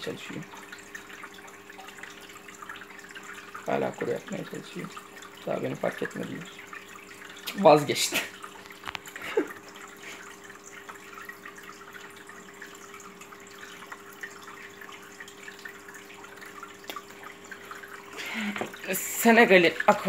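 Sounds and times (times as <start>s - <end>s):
tank filter hum: 0.0s - 20.0s
water trickling and dripping: 0.0s - 20.0s.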